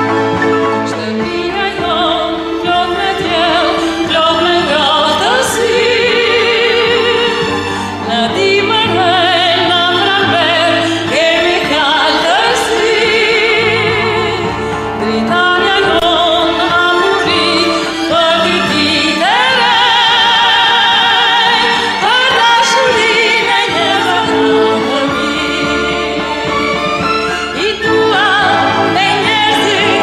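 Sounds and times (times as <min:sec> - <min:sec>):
instrumental backing music: 0:00.0 - 0:30.0
person singing with vibrato: 0:00.8 - 0:30.0.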